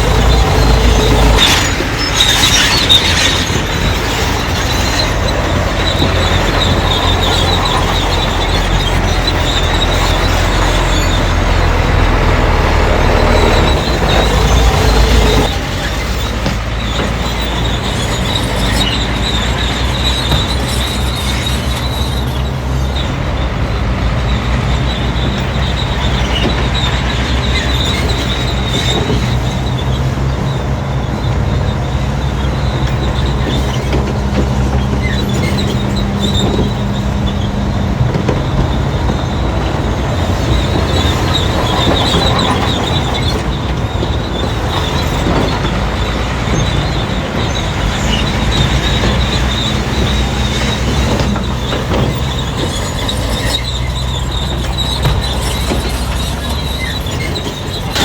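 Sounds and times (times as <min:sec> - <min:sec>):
diesel engine under load: 0:00.0 - 0:58.0
high squeal from tracks: 0:00.0 - 0:58.0
steel tracks clanking: 0:00.0 - 0:58.0.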